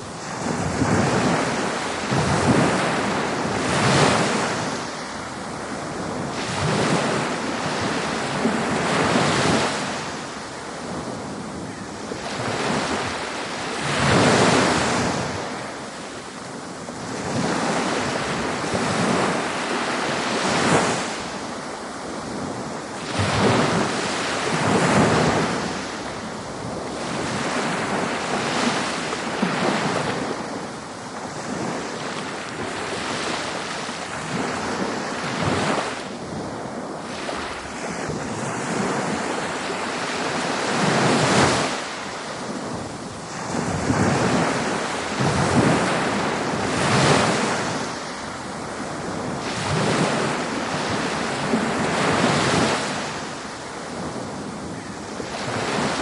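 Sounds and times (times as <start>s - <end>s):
ocean waves breaking on a beach: 0.0s - 56.0s.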